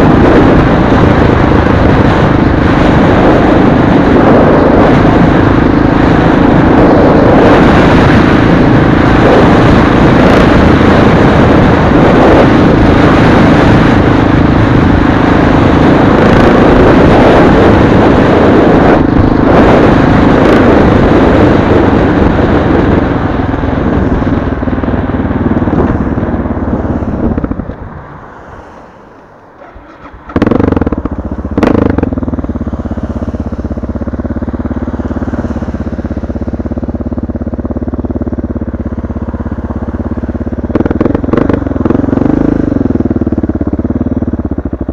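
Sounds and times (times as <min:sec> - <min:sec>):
motorcycle engine drone: 0:00.0 - 0:44.9
wind rush on microphone: 0:00.0 - 0:44.9.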